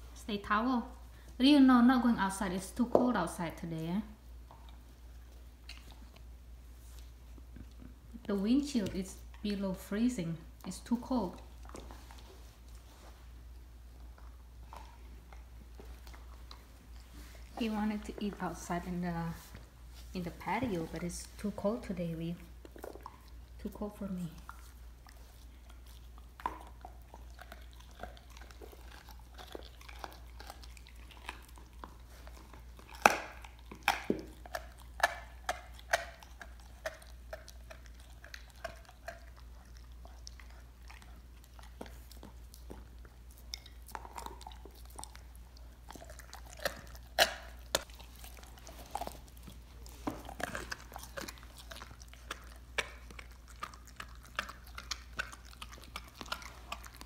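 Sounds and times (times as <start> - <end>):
dog gnawing bone: 4.3 - 19.3, 20.4 - 57.0.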